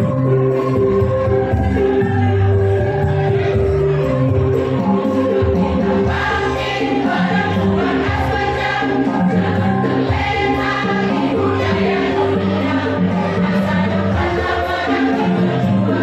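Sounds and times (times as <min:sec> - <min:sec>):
women's choir singing a hymn: 0:00.2 - 0:16.0.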